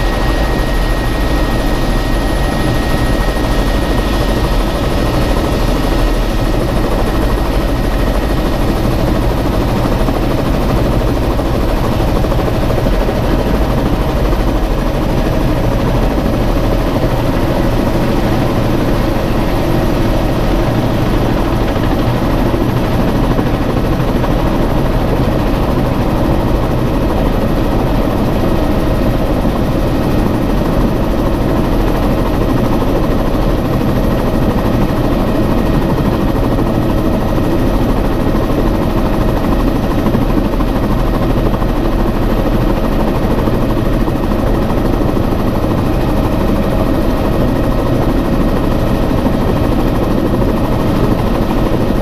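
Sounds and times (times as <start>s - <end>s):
helicopter engine and rotor: 0.0s - 52.0s.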